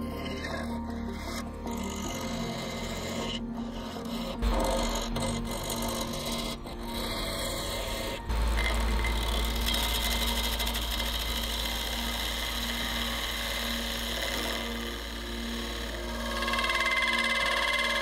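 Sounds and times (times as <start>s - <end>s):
gouge scraping spinning wood: 0.0s - 18.0s
lathe humming: 0.0s - 18.0s.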